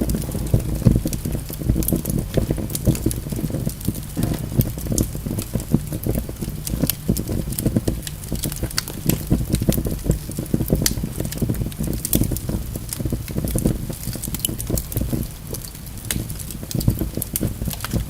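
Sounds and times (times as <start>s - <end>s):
logs burning and crackling: 0.0s - 18.0s.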